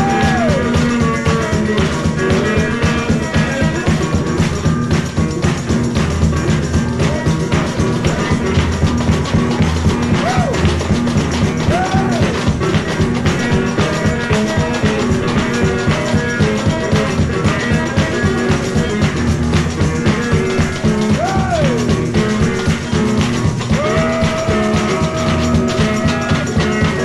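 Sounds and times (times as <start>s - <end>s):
bass drum beat: 0.0s - 27.0s
electric guitar: 0.0s - 27.0s.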